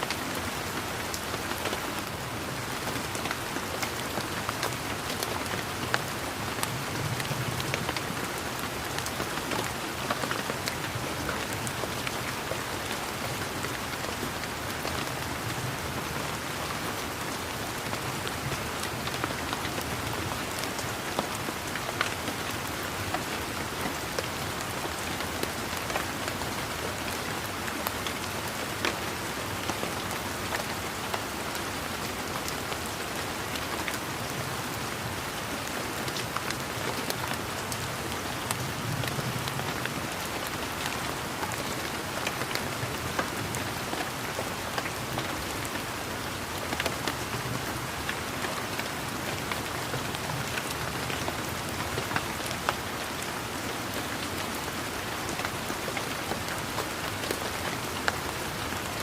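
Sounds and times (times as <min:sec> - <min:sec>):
steady rain pattering: 0:00.0 - 0:59.0.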